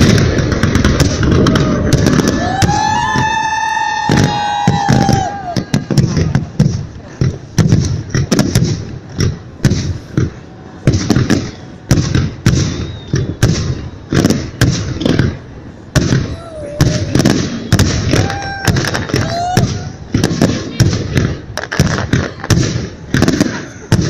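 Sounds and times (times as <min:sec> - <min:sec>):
fireworks bangs with echo: 0:00.0 - 0:24.0.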